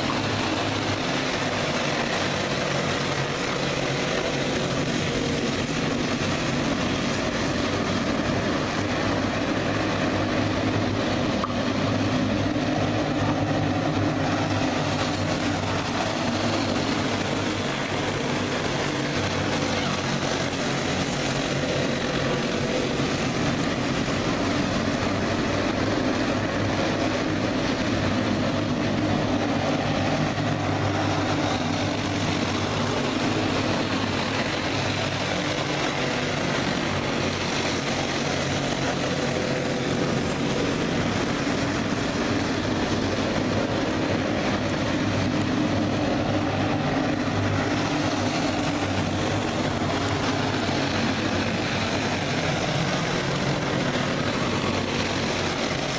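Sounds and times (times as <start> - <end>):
racing kart engines droning: 0.0 - 55.9.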